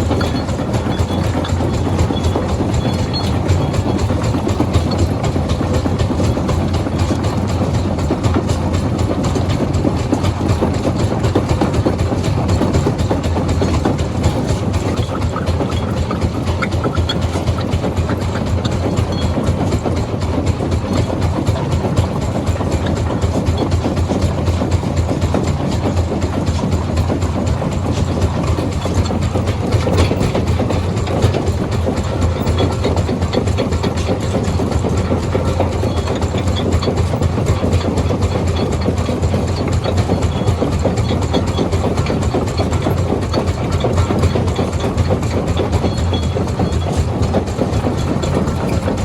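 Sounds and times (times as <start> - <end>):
deep engine hum: 0.0 - 49.0
stone crusher clatter: 0.0 - 49.0.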